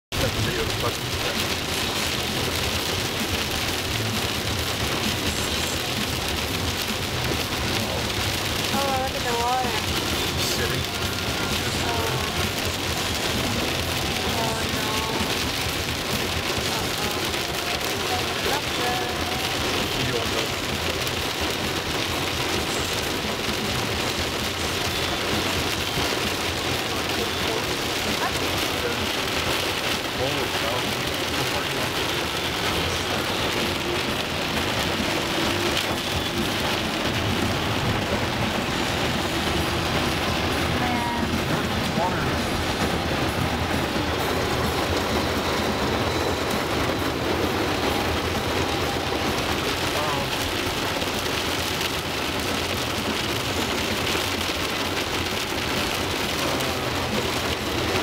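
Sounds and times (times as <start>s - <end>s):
heavy rain on a windshield: 0.1s - 58.0s
road rumble: 0.1s - 58.0s.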